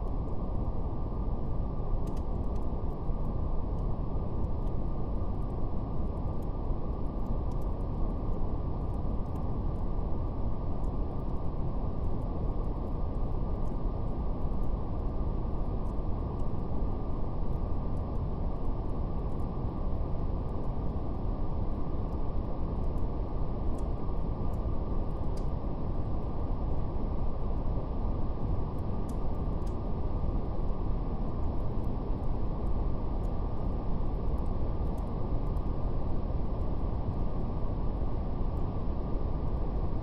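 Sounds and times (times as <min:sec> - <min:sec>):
fire crackling faintly: 0:00.0 - 0:40.0
steady brown noise: 0:00.0 - 0:40.0.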